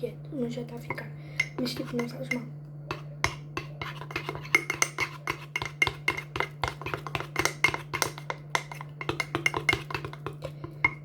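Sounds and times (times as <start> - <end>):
steady low hum: 0.0 - 11.0
metal spoon clinking in ceramic mug: 1.4 - 11.0.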